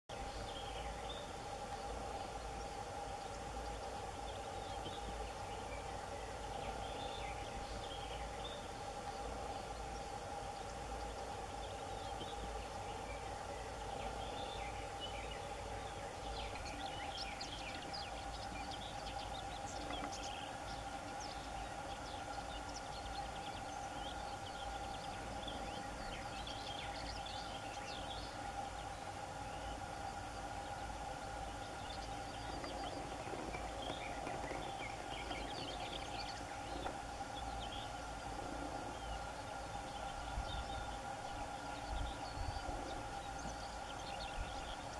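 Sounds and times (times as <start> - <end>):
birds chirping: 0.1 - 44.9
steady hum: 0.1 - 44.9.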